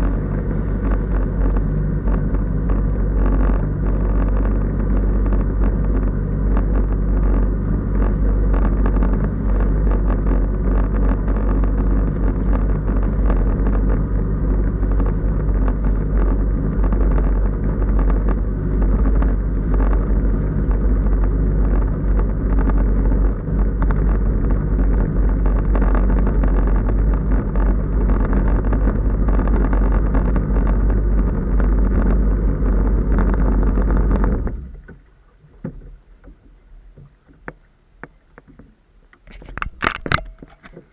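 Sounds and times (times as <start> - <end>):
jet ski engine running: 0.0 - 40.9.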